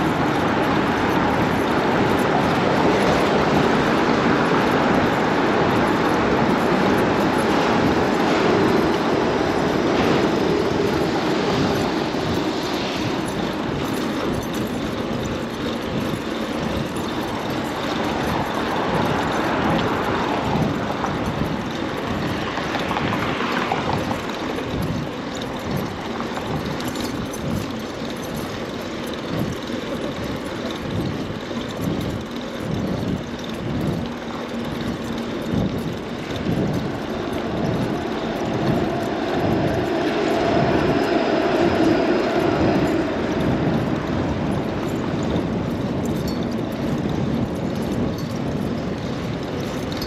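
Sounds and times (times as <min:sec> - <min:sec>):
city street traffic: 0:00.0 - 0:50.0
low rumble and buffeting: 0:00.0 - 0:50.0.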